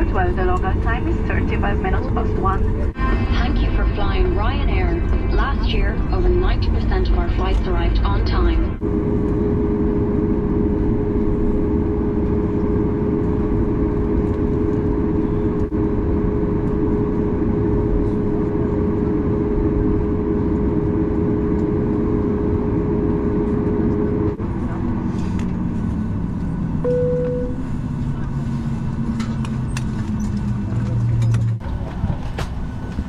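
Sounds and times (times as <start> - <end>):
jet engines idling: 0.0 - 33.0
steady cabin hum: 0.0 - 33.0.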